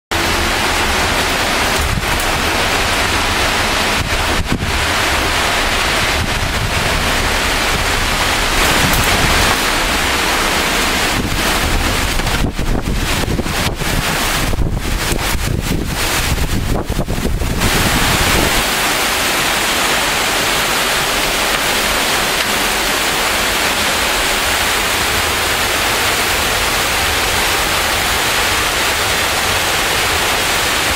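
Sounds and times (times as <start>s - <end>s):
torrential rain: 0.1s - 30.9s
wind buffeting microphone: 0.2s - 30.9s.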